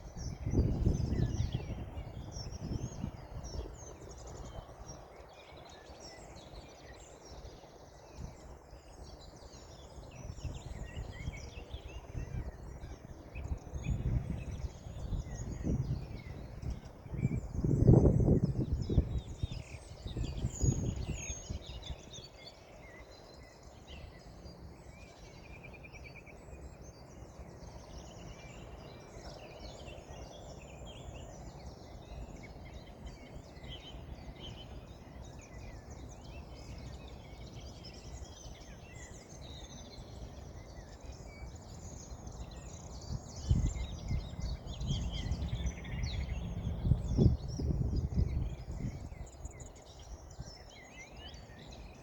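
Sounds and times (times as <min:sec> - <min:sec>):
small birds chirping and singing: 0:00.0 - 0:52.0.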